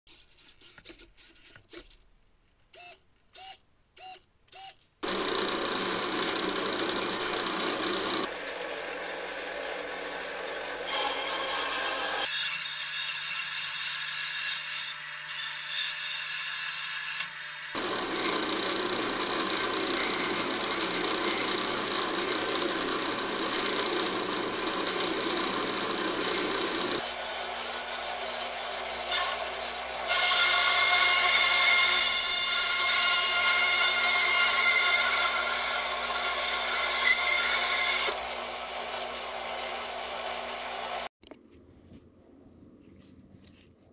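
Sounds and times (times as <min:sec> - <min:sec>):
band saw cutting plastic: 0:02.8 - 0:41.1.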